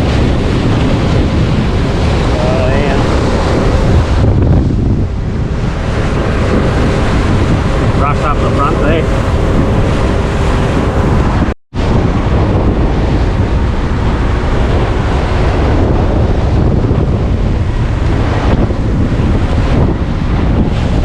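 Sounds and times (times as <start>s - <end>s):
water rushing: 0.0s - 21.0s
wind buffeting the microphone: 0.0s - 21.0s.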